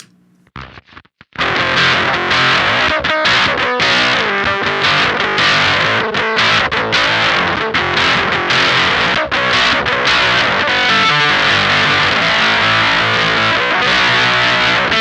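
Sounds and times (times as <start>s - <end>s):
fuzzed electric guitar riffing: 1.4s - 15.0s.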